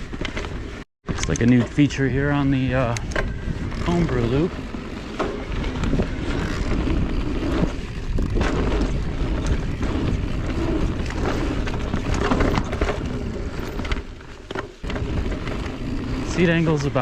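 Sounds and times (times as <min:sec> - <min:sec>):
bike knocks and rattles: 0:00.0 - 0:17.0
tyres on dirt: 0:00.0 - 0:17.0
wind rumbling on microphone: 0:00.0 - 0:17.0.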